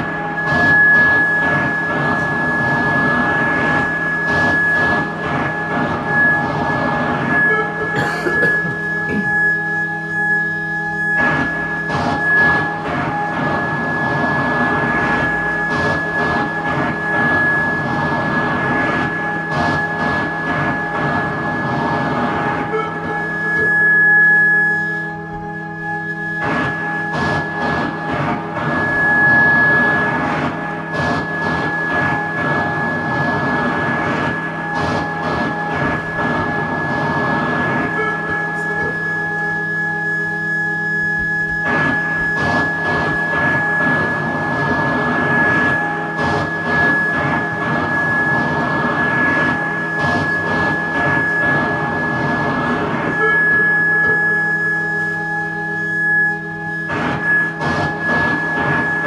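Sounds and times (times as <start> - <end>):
grainy machine-like noise: 0.0 - 59.0.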